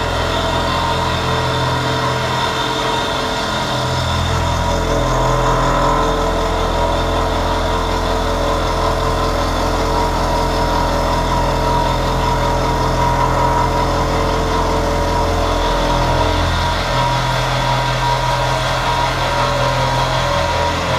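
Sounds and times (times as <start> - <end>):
face mill cutting steel: 0.0 - 20.9.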